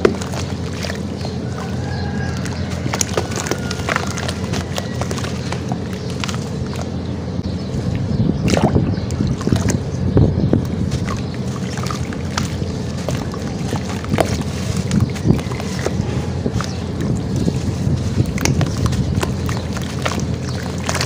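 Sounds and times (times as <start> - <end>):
water sloshing in a tub: 0.0 - 7.1, 7.9 - 21.0.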